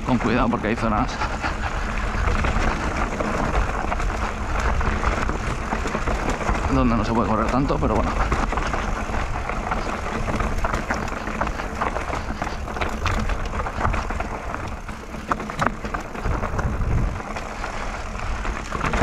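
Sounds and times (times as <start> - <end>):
bike rattling and knocking: 0.0 - 19.0
wind rumbling on microphone: 0.0 - 19.0.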